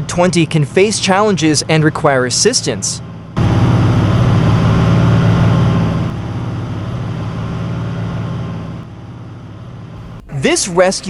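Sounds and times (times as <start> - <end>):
diesel tractor engine droning: 0.0 - 11.0.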